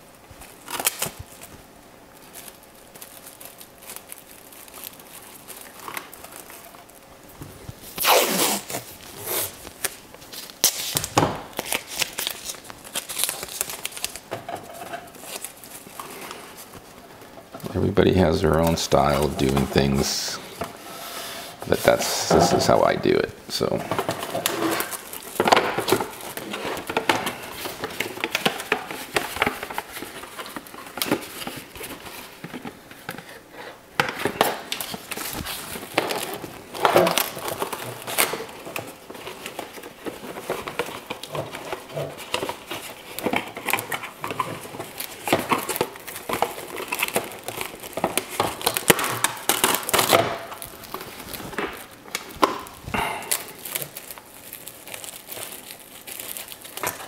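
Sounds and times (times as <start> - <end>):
plastic cling wrap crinkling: 0.0 - 57.0.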